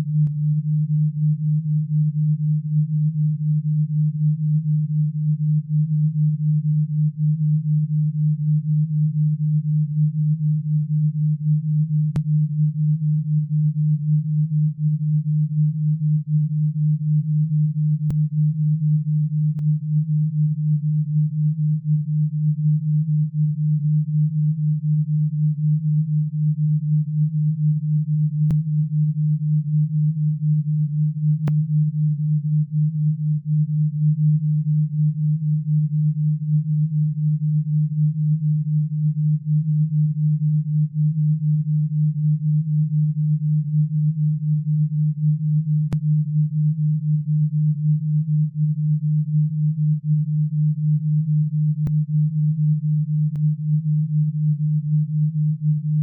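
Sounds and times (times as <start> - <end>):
low pulsing pure tone: 0.0 - 56.0.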